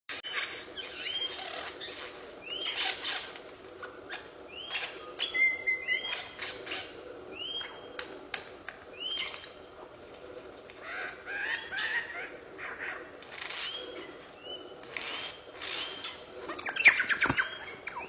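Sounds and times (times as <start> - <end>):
bird calling: 0.1 - 18.0.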